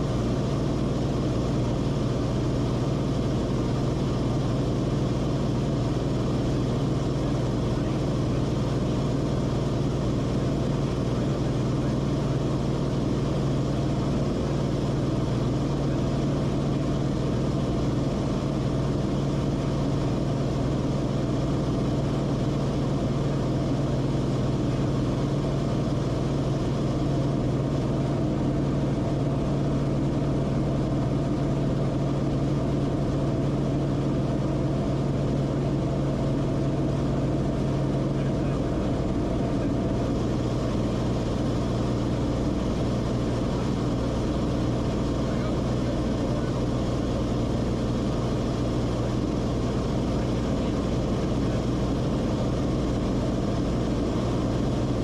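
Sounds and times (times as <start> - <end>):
aircraft engine humming: 0.0 - 55.0.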